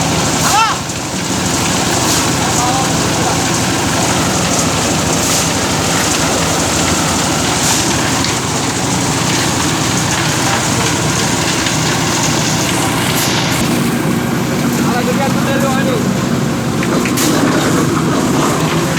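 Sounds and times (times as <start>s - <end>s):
concrete mixer engine rattling: 0.0s - 18.9s.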